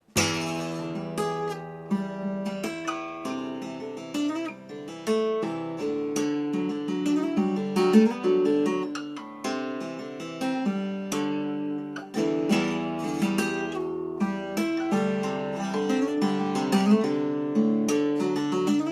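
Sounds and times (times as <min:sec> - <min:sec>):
acoustic guitar chords and notes: 0:00.0 - 0:18.9.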